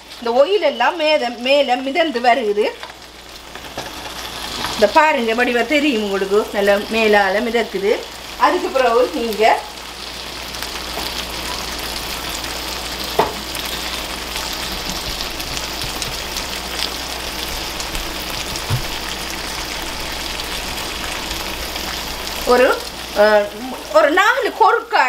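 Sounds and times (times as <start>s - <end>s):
curry sizzling in frying pan: 0.0s - 25.0s.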